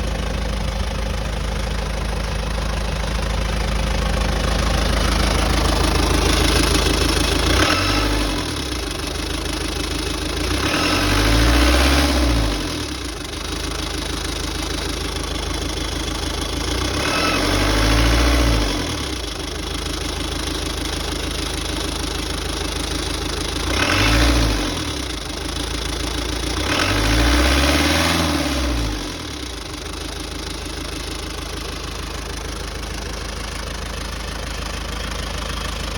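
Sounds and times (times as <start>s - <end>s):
engine idling and revving: 0.0s - 35.9s.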